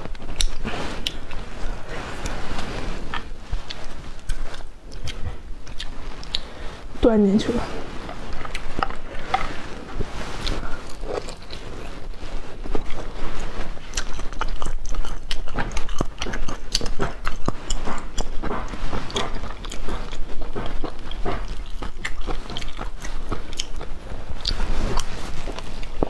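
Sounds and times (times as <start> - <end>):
chewing with mouth clicks: 0.0 - 1.4, 3.1 - 6.5, 8.0 - 26.0.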